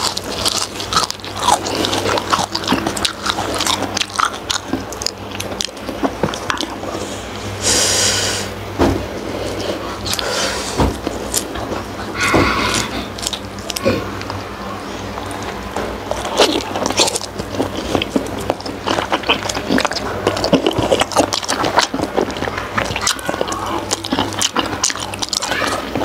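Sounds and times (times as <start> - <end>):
wet chewing: 0.0 - 7.8, 9.4 - 14.4, 15.1 - 26.0.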